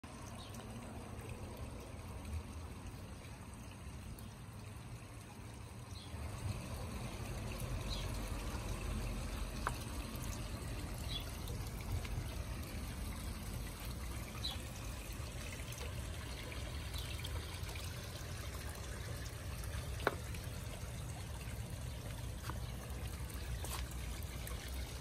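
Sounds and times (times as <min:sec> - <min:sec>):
fountain trickling into basin: 0:00.0 - 0:25.0.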